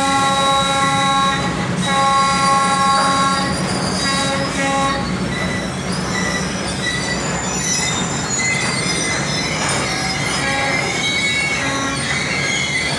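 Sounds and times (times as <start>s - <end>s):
freight train wheels rumbling: 0.0s - 12.9s
high-pitched wheel squeals: 1.8s - 12.9s.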